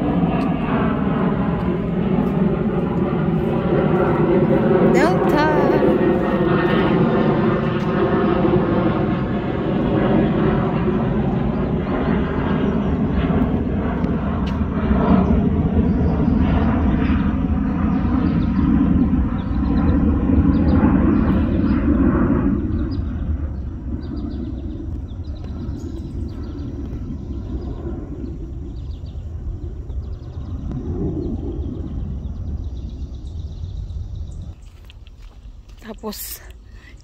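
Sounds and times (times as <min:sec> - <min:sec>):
jet airliner flying overhead: 0:00.0 - 0:37.0.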